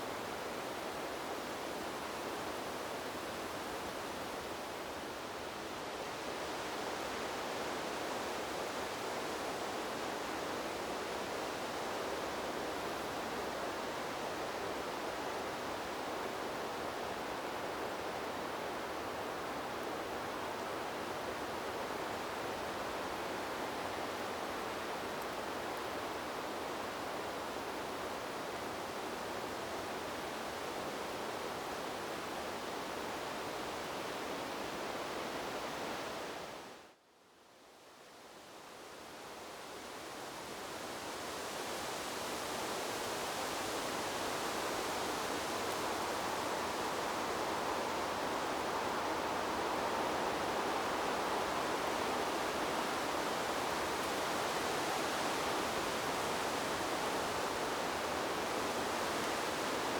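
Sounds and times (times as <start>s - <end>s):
wind blowing through trees: 0.0s - 59.9s.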